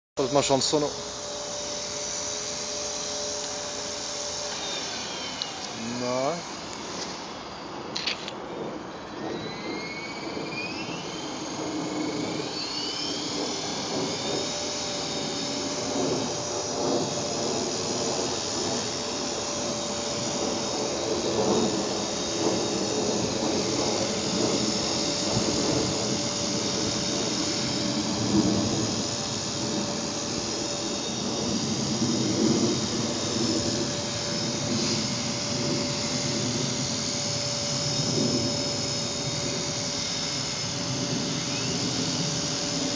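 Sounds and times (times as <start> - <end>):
rc helicopter motor whine: 0.2 - 42.9.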